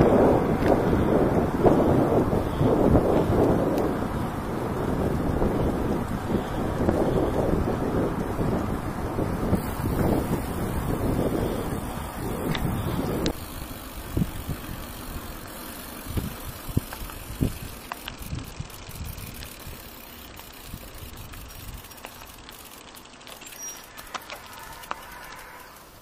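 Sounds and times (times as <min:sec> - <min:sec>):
wind buffeting microphone: 0:00.0 - 0:22.3
bicycle tyre rumble on asphalt: 0:00.0 - 0:26.0
bike rattles and clicks: 0:00.0 - 0:26.0.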